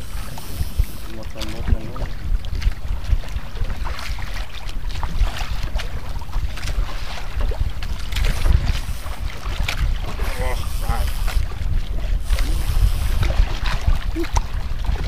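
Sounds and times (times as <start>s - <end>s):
waves lapping against boat hull: 0.0s - 15.0s
wind buffeting microphone: 0.0s - 15.0s.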